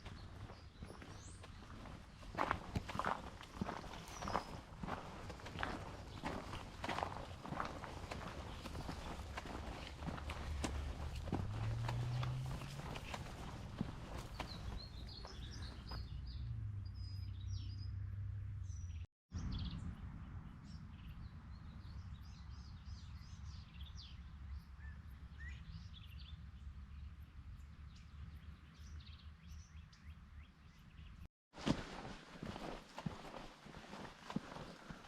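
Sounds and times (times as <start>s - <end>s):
small birds chirping: 0.0s - 31.3s, 32.4s - 35.0s.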